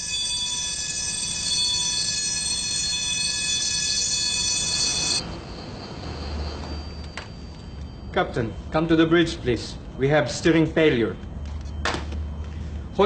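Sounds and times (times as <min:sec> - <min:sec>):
high-pitched electronic alarm tone: 0:00.0 - 0:13.0.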